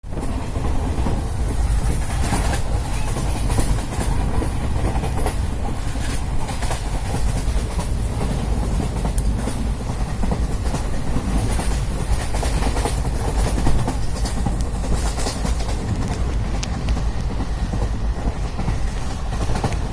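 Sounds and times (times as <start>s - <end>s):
rail clicks and clacks: 0.0s - 19.9s
train wheels rumbling: 0.0s - 19.9s.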